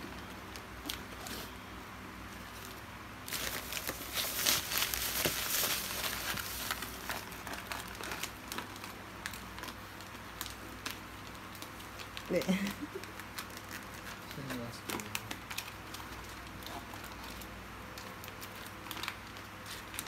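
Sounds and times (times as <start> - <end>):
wrapping paper crinkling: 2.4 - 20.0.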